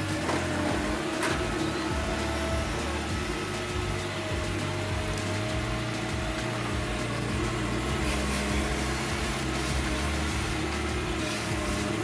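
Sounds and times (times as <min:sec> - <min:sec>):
wood chipper running: 0:00.0 - 0:12.0.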